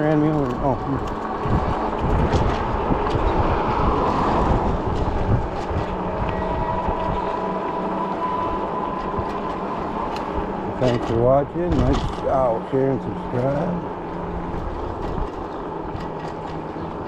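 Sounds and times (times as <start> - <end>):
rolling road noise: 0.0 - 17.0
wind rushing over microphone: 0.0 - 17.0.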